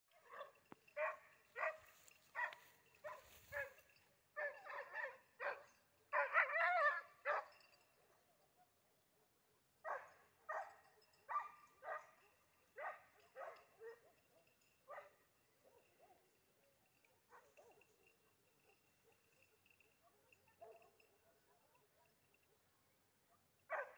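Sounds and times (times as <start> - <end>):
dog barking: 0.1 - 7.7, 9.8 - 16.4, 17.2 - 22.7, 23.7 - 23.9.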